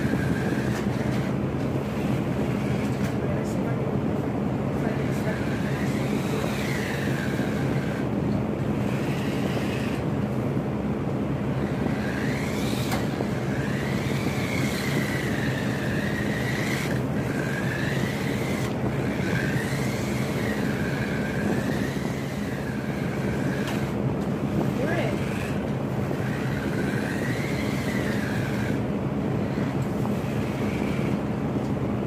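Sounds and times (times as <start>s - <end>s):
remote-control car motor whining: 0.0s - 3.2s, 4.8s - 10.2s, 11.5s - 31.2s.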